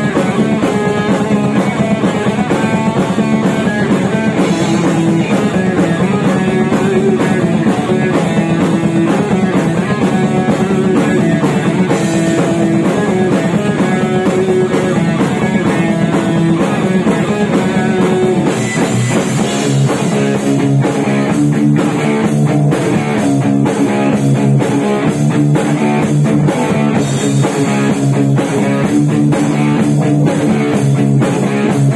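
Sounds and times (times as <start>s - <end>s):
drum hits: 0.0s - 31.9s
thrash metal band playing: 0.0s - 31.9s.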